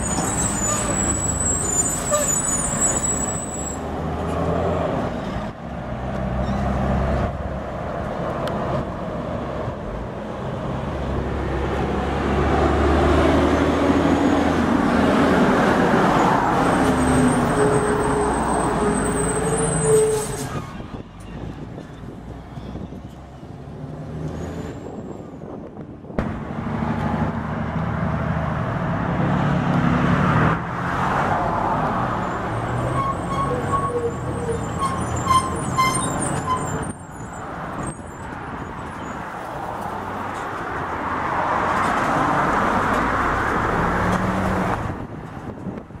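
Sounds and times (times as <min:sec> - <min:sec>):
diesel trucks driving past: 0:00.0 - 0:46.0.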